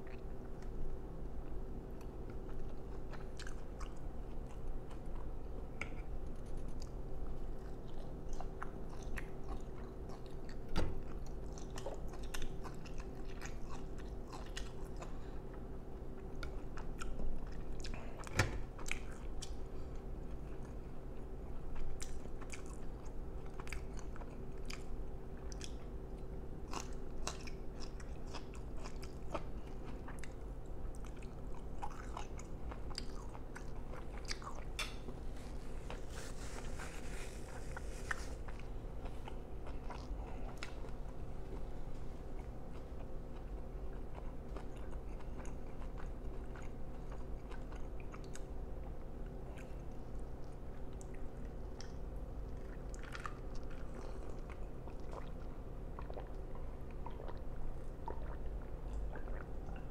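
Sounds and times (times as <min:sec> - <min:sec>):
faint steady hum: 0:00.0 - 0:59.9
close chewing: 0:01.4 - 0:15.6, 0:16.2 - 0:48.6, 0:49.2 - 0:59.9.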